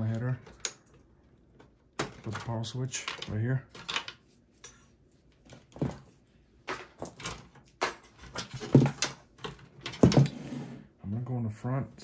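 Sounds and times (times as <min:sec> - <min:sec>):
cables and connectors handled: 0:00.0 - 0:10.3.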